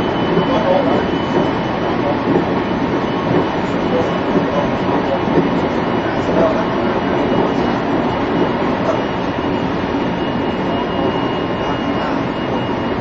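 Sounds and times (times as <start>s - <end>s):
faint steady high tone: 0.0s - 13.0s
train cabin rumble and hiss: 0.0s - 13.0s.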